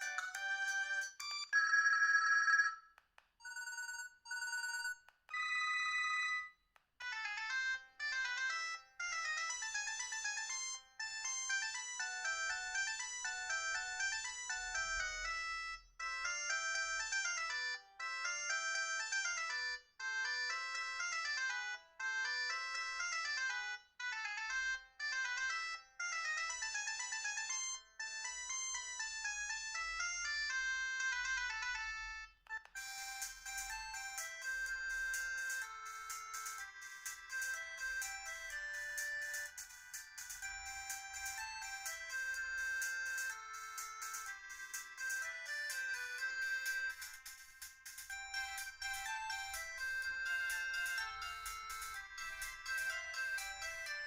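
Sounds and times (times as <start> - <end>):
phone ringtone tune: 0.0 - 54.0.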